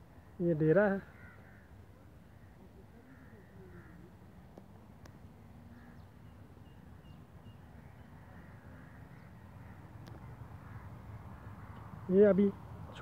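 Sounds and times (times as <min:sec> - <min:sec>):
crows cawing faintly: 0:00.0 - 0:13.0.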